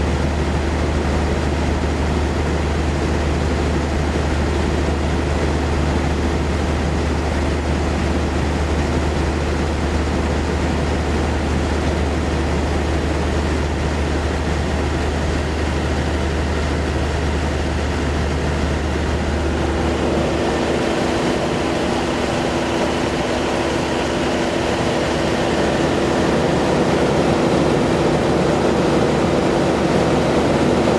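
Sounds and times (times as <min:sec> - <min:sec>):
higher steady engine drone: 0:00.0 - 0:30.9
low engine hum: 0:00.0 - 0:30.9.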